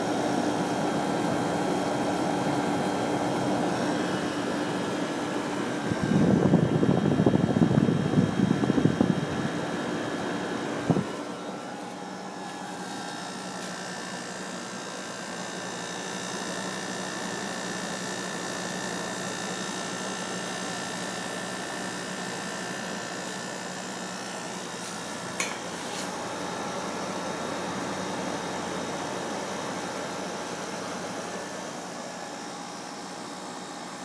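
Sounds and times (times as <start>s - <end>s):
air conditioner humming: 0.0s - 34.0s.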